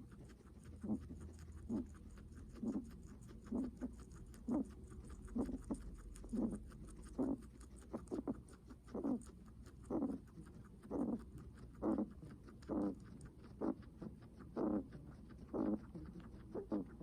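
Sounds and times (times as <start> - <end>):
guinea pig breathing heavily: 0.0 - 17.0.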